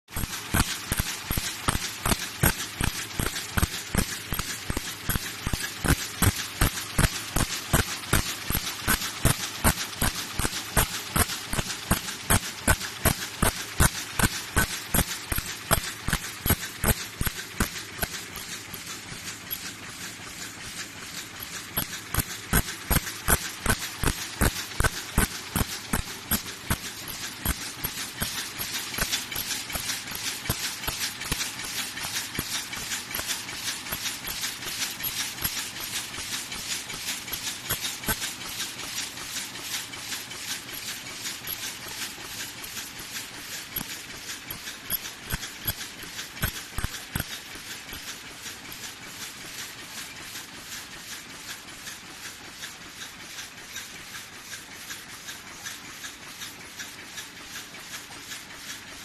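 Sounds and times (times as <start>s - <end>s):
machine clattering: 0.1s - 59.0s.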